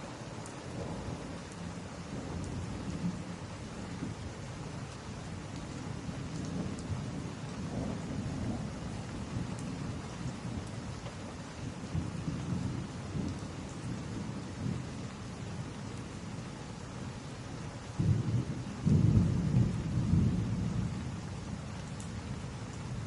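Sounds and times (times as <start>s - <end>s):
faint wood fire crackles: 0.0s - 23.0s
steady rain: 0.0s - 23.0s.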